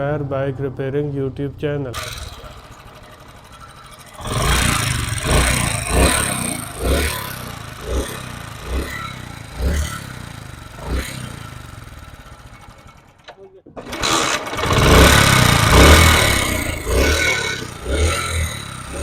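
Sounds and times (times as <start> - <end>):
clattering engine noise: 1.9 - 19.0
motorcycle engine revving in blips: 1.9 - 19.0.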